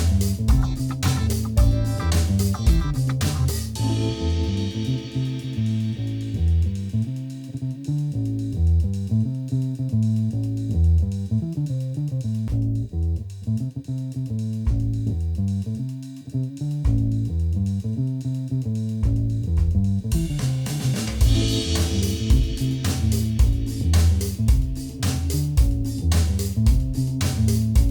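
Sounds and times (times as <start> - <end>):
instrumental music with bass line: 0.0 - 27.9.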